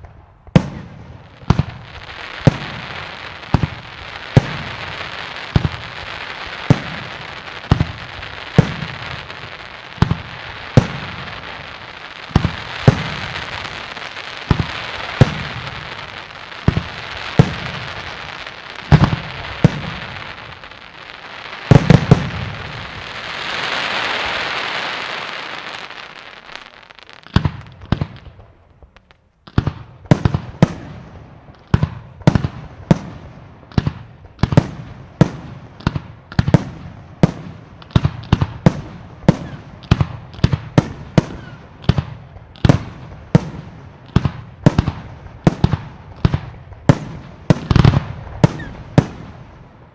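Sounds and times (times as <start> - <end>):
fireworks bangs: 0.0 - 49.9
fireworks crackling hiss: 0.0 - 49.9.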